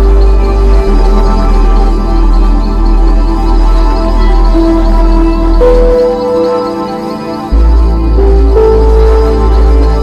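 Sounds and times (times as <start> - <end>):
deep bass drone: 0.0 - 10.0
slow ambient music: 0.0 - 10.0.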